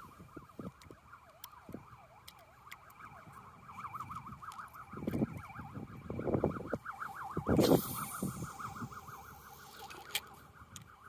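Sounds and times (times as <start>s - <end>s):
distant wailing siren: 0.0s - 11.0s.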